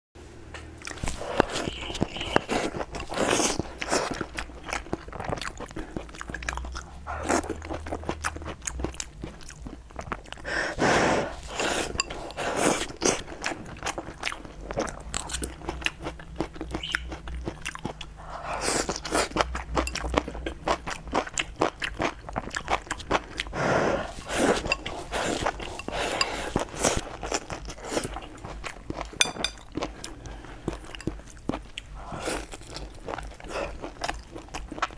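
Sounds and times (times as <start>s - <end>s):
person chewing food: 0.7s - 34.9s.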